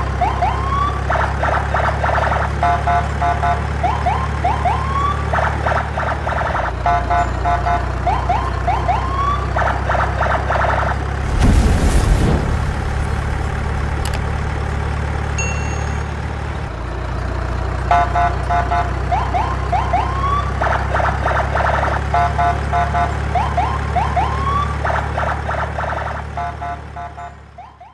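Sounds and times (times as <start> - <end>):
truck engine drone: 0.0 - 27.9.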